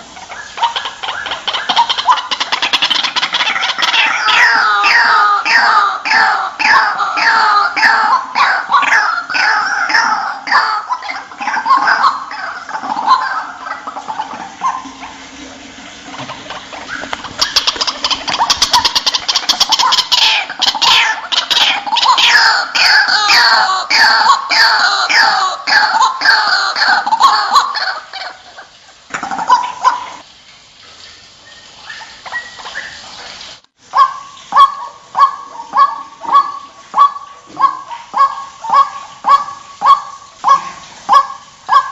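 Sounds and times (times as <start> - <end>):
waterhen calling: 0.0 - 41.9.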